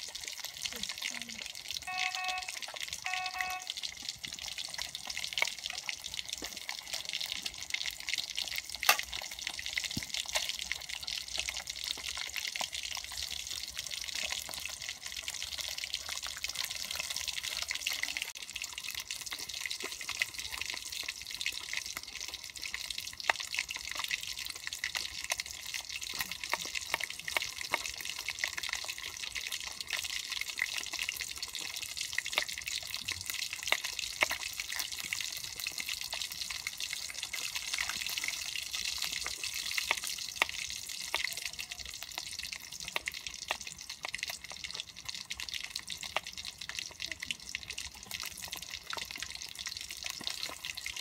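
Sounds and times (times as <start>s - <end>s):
fish sizzling in oil: 0.0s - 51.0s.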